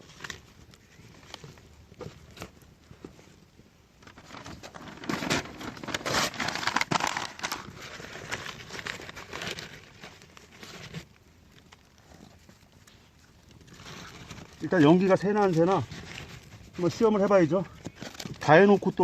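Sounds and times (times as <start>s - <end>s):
dry material crinkling and crackling: 0.0s - 19.0s.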